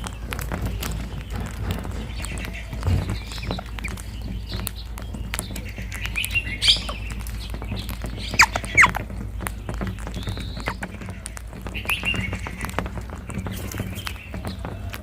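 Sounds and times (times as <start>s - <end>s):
parakeets calling: 0.0s - 15.0s
small clicks and taps: 0.0s - 15.0s.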